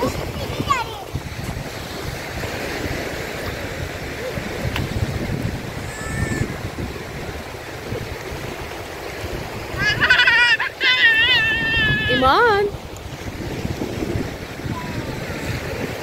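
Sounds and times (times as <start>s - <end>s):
small surf washing in: 0.0s - 16.0s
wind rumbling on microphone: 0.0s - 16.0s.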